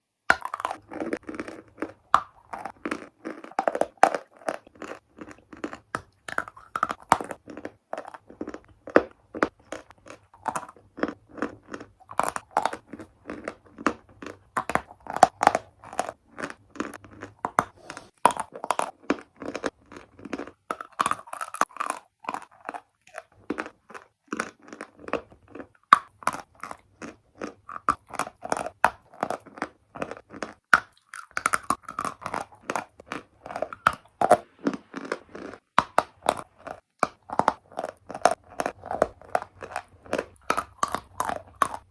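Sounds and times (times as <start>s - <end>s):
chalk crunching being chewed: 0.4s - 41.9s.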